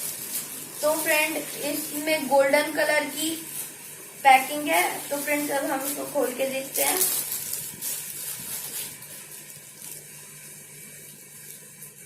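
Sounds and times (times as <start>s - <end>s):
wrapping paper crinkling: 0.0s - 12.0s.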